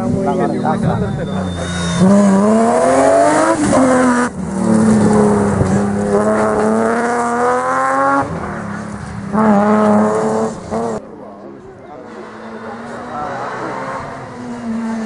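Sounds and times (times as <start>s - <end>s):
car engine accelerating hard: 0.0s - 11.0s, 11.9s - 15.0s.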